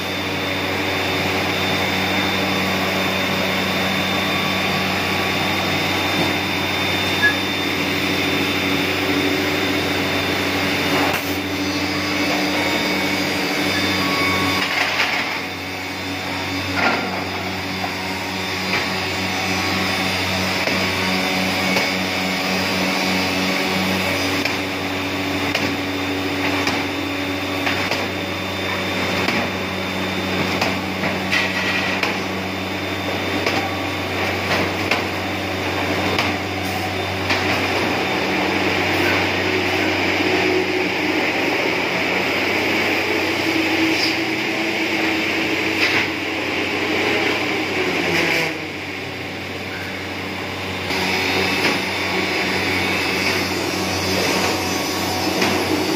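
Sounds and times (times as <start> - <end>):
machine motor hum and whir: 0.0 - 55.9.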